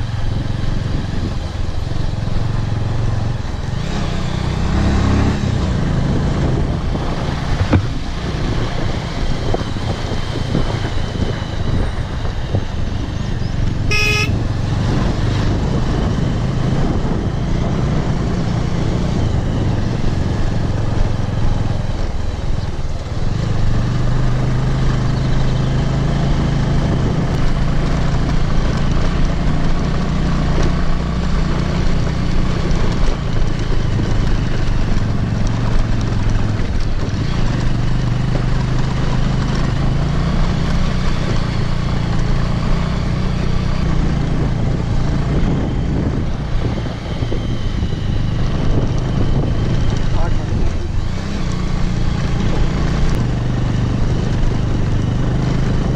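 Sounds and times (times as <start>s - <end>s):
motorcycle engine running: 0.0s - 55.9s
road and wind noise: 0.0s - 55.9s.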